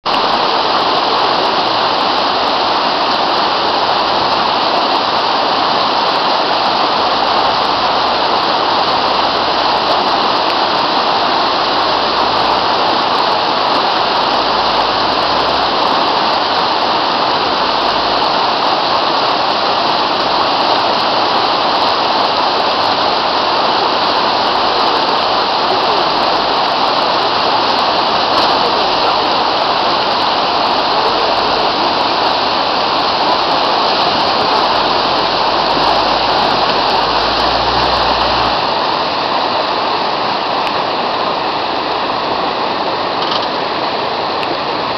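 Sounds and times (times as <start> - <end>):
river water rushing: 0.1 - 44.9.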